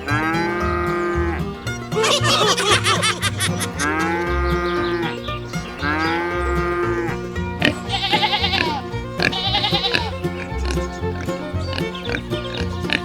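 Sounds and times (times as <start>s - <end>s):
background music: 0.0s - 13.0s
farm animal calls: 0.0s - 13.0s.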